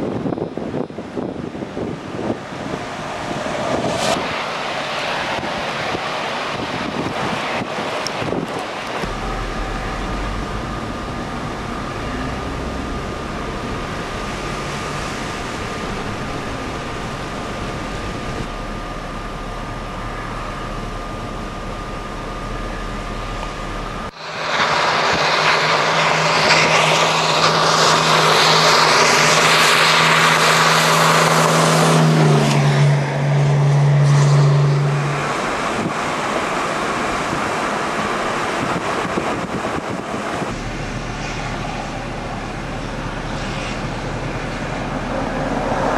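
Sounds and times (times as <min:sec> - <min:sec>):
car engine and road noise: 0:00.0 - 0:45.9
rushing wind: 0:00.0 - 0:45.9.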